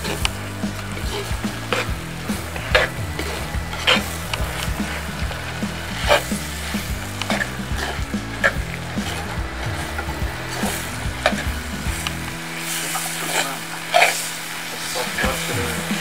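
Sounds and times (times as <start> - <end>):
fish sizzling in a pot: 0.0 - 16.0.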